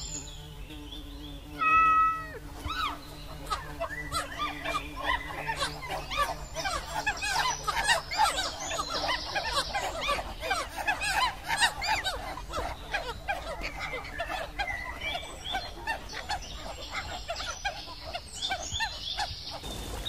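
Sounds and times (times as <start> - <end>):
flock of birds calling: 0.0 - 20.0.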